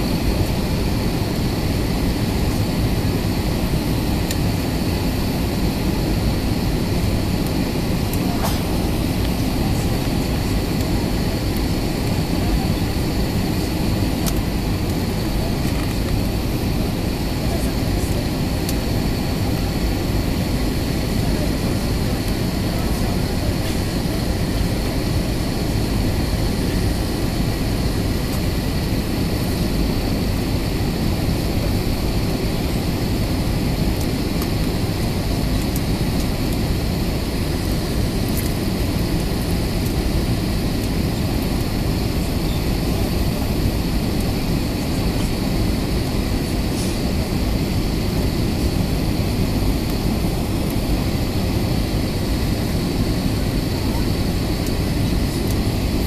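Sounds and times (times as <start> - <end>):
airliner engine and airflow rush: 0.0 - 56.0.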